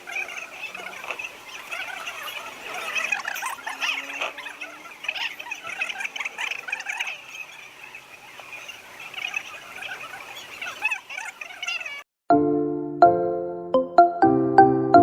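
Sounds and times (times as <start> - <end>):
small animals chirping and squeaking: 0.0 - 12.1.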